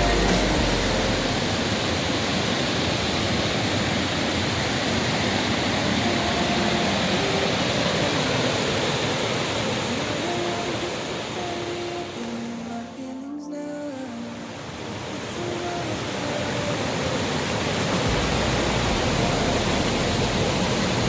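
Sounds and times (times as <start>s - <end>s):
waterfall rushing: 0.0s - 13.1s, 13.9s - 21.0s.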